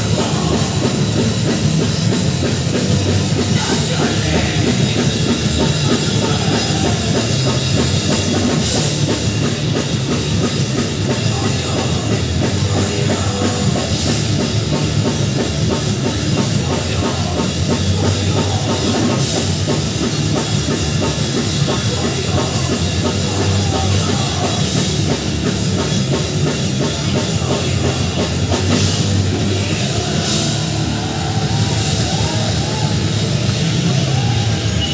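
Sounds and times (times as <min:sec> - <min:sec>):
drum kit: 0:00.0 - 0:34.9
heavy metal band playing live: 0:00.0 - 0:34.9.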